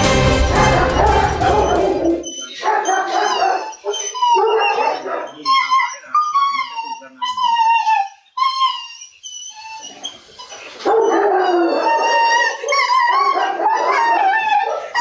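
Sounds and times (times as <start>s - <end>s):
dog whining and howling: 0.9s - 15.0s.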